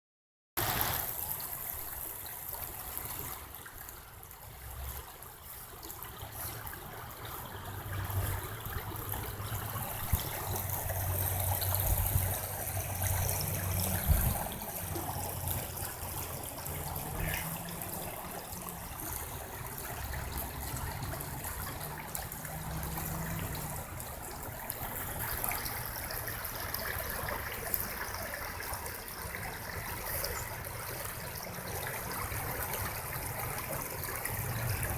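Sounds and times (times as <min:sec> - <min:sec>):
water running: 0:04.5 - 0:34.9.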